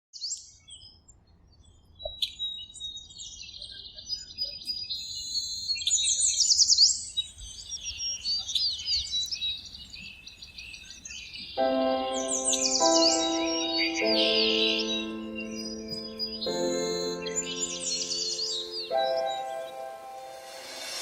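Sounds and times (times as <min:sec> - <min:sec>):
birds chirping and singing: 0:02.2 - 0:21.0.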